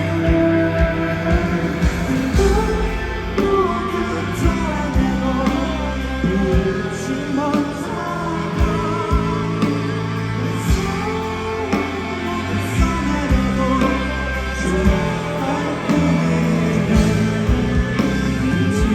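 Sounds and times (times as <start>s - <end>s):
drums: 0.0s - 18.9s
electric guitars: 0.0s - 18.9s
lead vocal singing: 0.0s - 18.9s.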